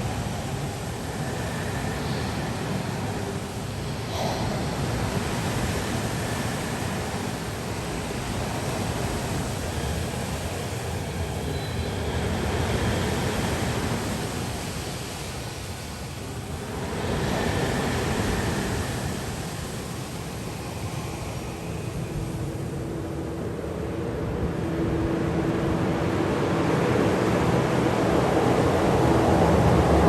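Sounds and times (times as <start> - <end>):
rushing wind with low rumble: 0.0 - 30.0.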